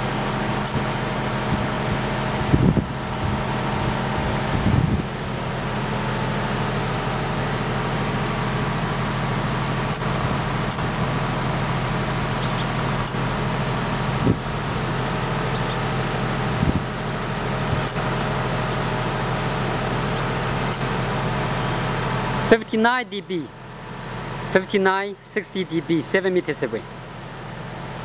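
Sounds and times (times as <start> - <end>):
diesel generator humming: 0.0 - 28.0.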